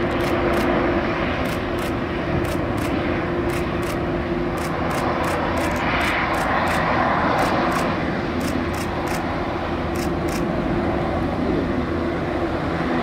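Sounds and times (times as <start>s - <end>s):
distant jet engine rumble: 0.0s - 13.0s.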